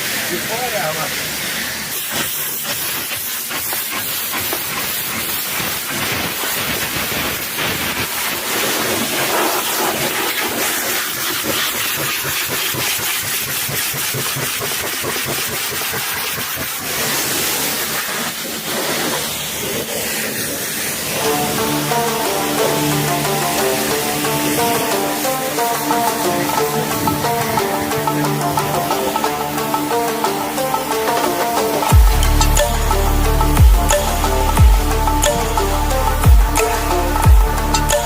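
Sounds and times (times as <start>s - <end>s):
pressure washer spraying water: 0.0s - 38.0s.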